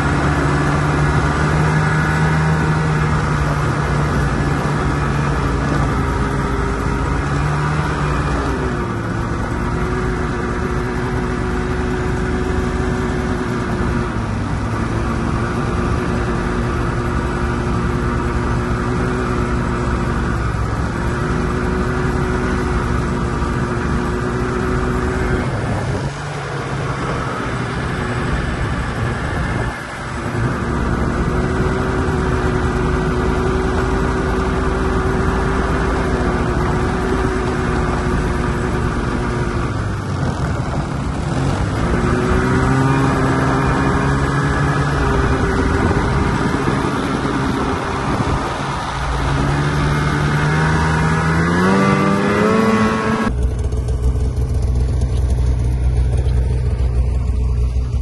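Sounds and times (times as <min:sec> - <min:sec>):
low engine hum: 0:00.0 - 0:58.0
snowmobile engine droning: 0:00.0 - 0:58.0.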